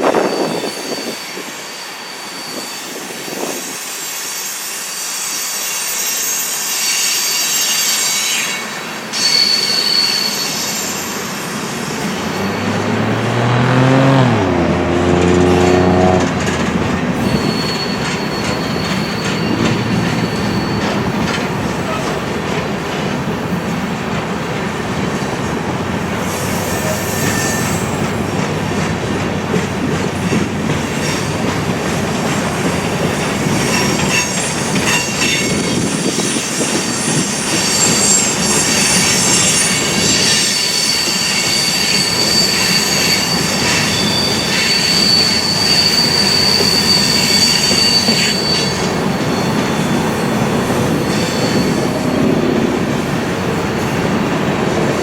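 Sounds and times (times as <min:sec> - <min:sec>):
freight train rolling past: 0:00.0 - 0:55.0
train wheels squealing on rails: 0:00.0 - 0:55.0.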